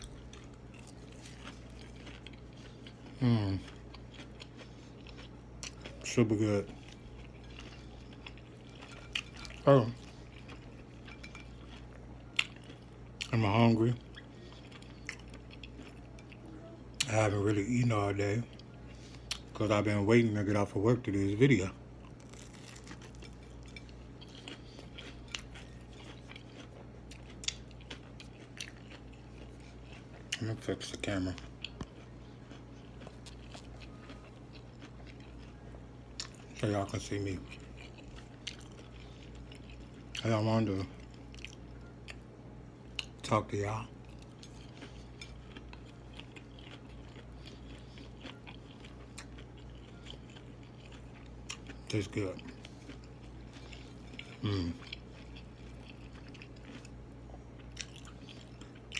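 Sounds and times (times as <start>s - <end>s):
chewing and crunching: 0.0s - 58.9s
steady low hum: 0.0s - 58.9s.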